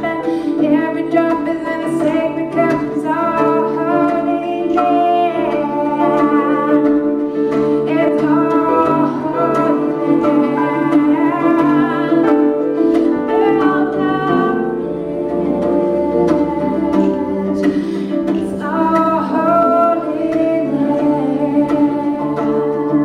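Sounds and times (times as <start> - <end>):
plucked strings: 0.0 - 23.0
woman singing: 0.0 - 23.0.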